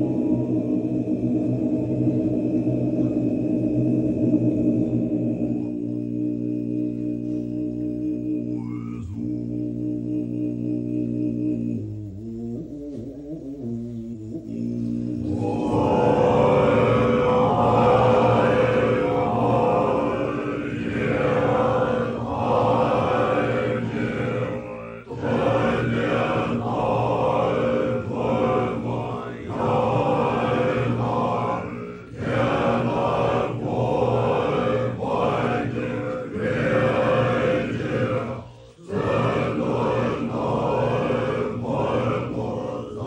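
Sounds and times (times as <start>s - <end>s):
low chanting voices: 0.0s - 43.0s.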